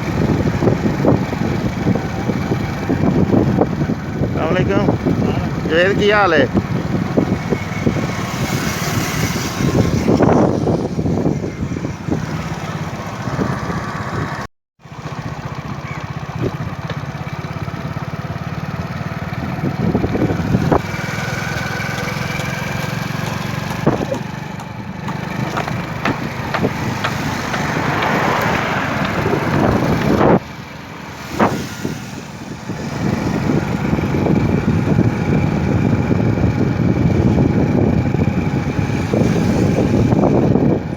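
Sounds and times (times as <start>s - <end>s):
motorcycle engine running: 0.0s - 40.9s
road noise: 0.0s - 40.9s.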